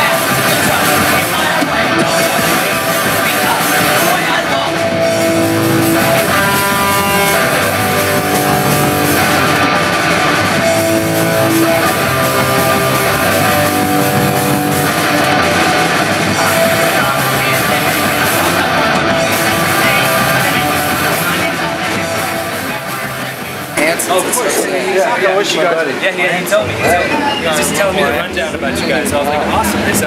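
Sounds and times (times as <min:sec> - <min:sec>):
electric guitar chords: 0:00.0 - 0:25.2
rock band playing loudly: 0:00.0 - 0:30.0.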